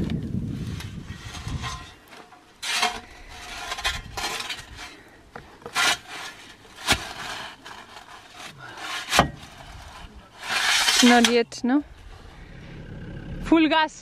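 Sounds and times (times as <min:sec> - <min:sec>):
metal boards scraping on sand: 0:00.6 - 0:12.8.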